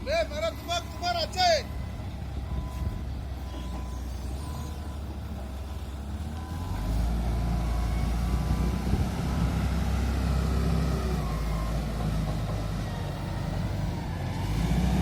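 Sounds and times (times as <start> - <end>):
heavy vehicle engine running: 0.0 - 15.0.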